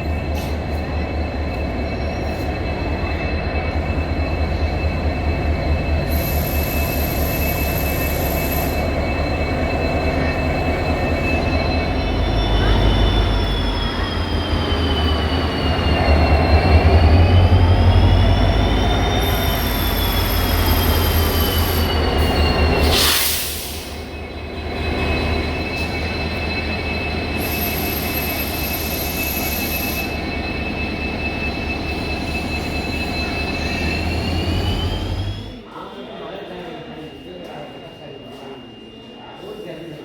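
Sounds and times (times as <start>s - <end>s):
train rumbling: 0.0s - 38.6s
high train squeal: 0.0s - 40.0s.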